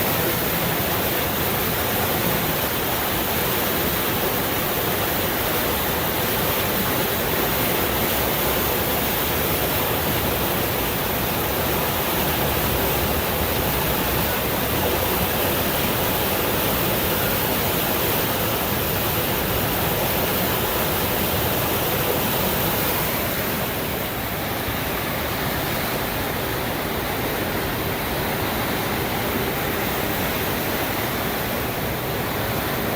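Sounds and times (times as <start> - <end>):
rushing white water: 0.0 - 32.9.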